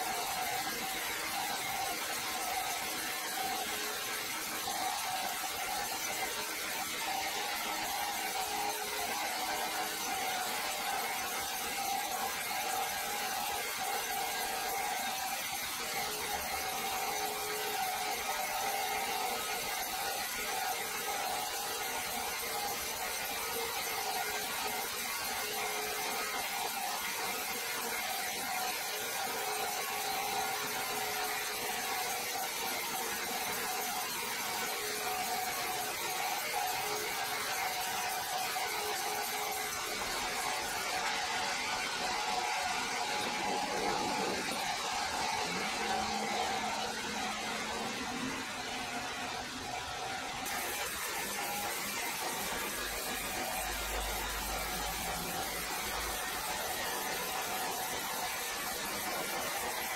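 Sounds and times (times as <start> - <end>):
band saw cutting timber: 0.0 - 59.9.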